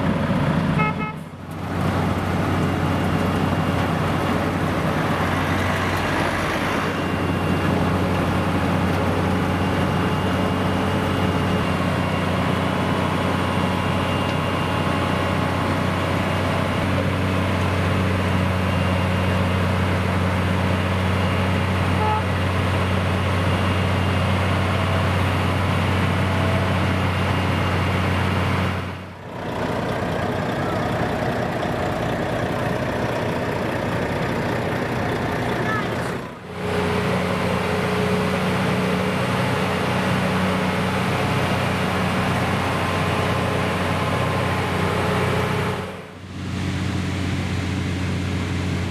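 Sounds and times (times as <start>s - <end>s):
heavy vehicle engine running: 0.0s - 48.9s.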